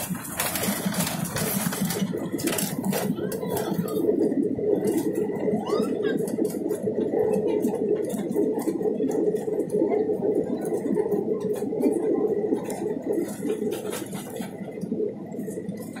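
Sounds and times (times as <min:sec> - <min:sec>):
jet engines and wheels rumbling: 0:00.0 - 0:16.0.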